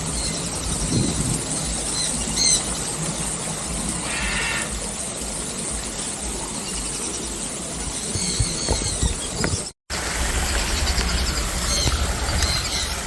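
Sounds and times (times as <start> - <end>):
small birds chirping: 0.0 - 9.8, 10.4 - 13.0.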